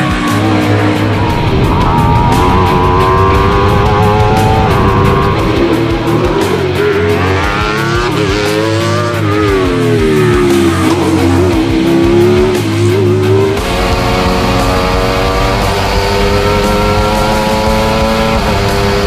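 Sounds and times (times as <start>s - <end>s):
background music with guitar: 0.0s - 19.0s
race car engine running hard: 0.0s - 19.0s.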